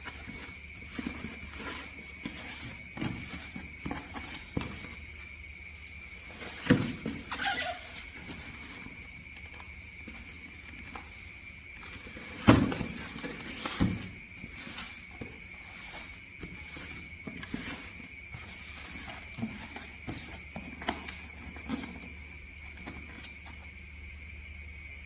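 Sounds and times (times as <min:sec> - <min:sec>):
box and packaging rustling: 0:00.0 - 0:05.3, 0:06.0 - 0:23.7.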